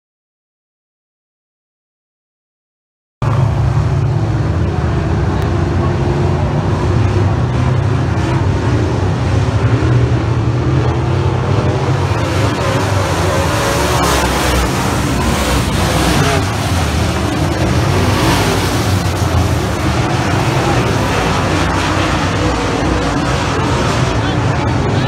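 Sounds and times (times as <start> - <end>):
race car engines running: 3.2 - 25.0.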